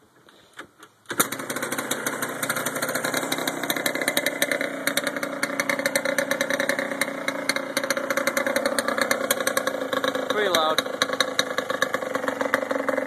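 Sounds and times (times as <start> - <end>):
two-stroke engine kick-started: 0.5 - 13.0
engine idling loudly: 1.3 - 13.0.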